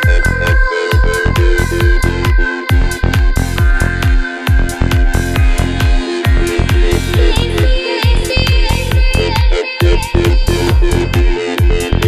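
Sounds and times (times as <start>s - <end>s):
deep kick drum: 0.0s - 12.0s
hi-hats: 0.0s - 12.0s
sustained synth chords: 0.0s - 12.0s.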